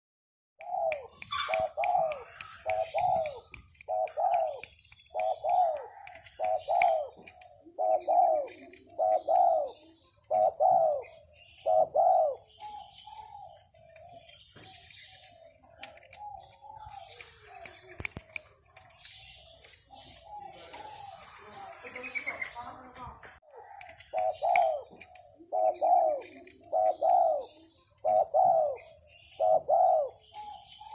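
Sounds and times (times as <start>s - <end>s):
dove cooing: 0.6s - 14.2s, 15.1s - 18.6s, 20.0s - 22.2s, 23.5s - 30.9s
small birds chirping: 0.6s - 30.9s.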